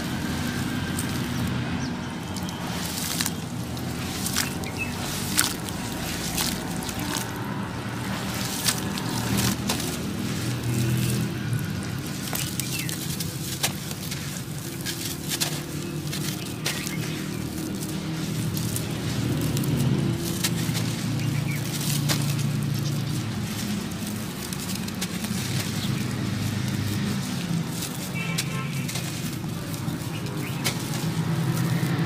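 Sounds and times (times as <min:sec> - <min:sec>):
crumbs pattering into water: 0:00.0 - 0:32.0
gritty crackles of crumbling cement: 0:00.0 - 0:32.0.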